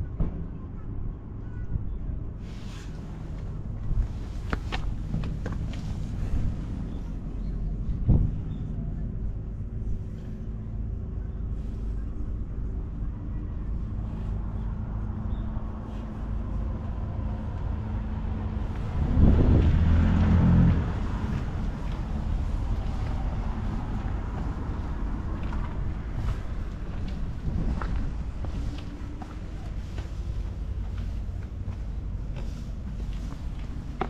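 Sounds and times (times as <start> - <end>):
engine running: 2.6 - 34.0.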